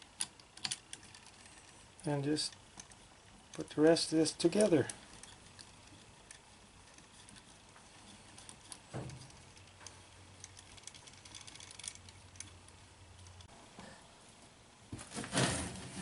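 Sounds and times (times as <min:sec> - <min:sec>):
small metal parts clicking: 0:00.0 - 0:13.5.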